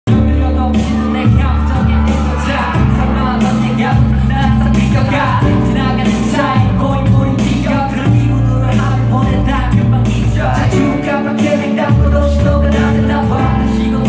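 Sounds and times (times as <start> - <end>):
man singing into microphone: 0.1 - 14.0
pop song over sound system: 0.1 - 14.0.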